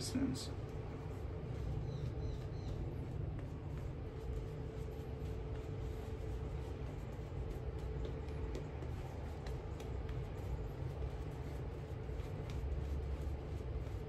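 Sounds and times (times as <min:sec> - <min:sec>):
low rumble and hum: 0:00.0 - 0:14.0
shaving brush lathering: 0:00.6 - 0:14.0.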